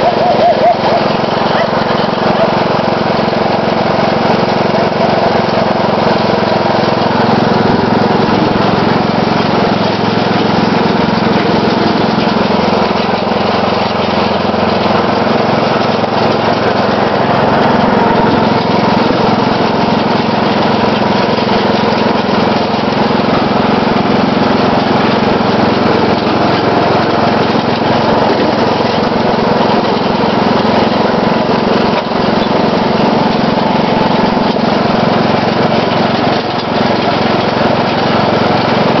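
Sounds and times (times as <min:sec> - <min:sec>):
riding lawn mower engine running: 0:00.0 - 0:39.0.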